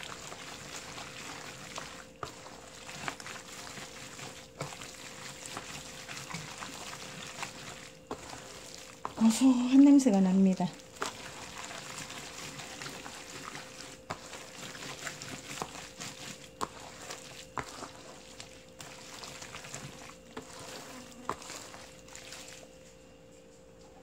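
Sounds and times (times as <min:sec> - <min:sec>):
wet squishing of mixing paste: 0:00.0 - 0:23.0.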